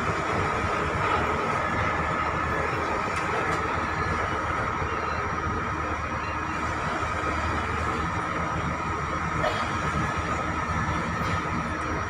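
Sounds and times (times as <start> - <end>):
heavy machinery engines running: 0.0 - 12.0.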